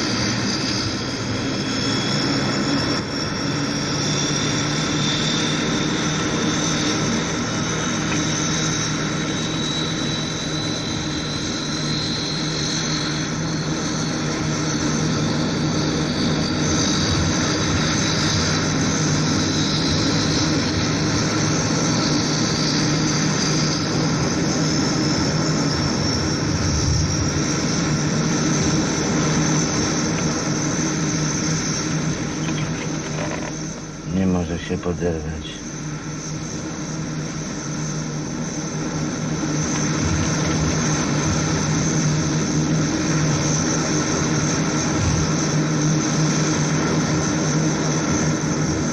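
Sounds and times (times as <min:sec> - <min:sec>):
high engine whine: 0:00.0 - 0:48.9
turboprop engines droning in cabin: 0:00.0 - 0:48.9.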